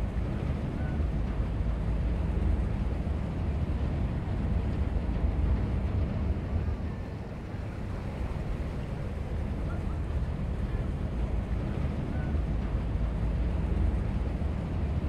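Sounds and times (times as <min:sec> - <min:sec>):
ship engine rumbling: 0:00.0 - 0:15.0.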